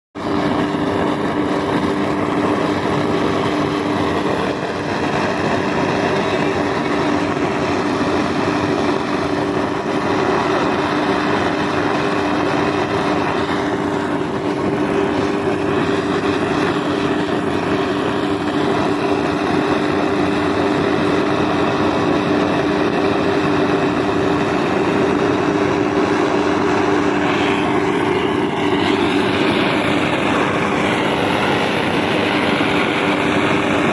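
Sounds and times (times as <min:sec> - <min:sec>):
engine humming steadily: 0:00.2 - 0:33.9
machinery noise: 0:00.2 - 0:33.9.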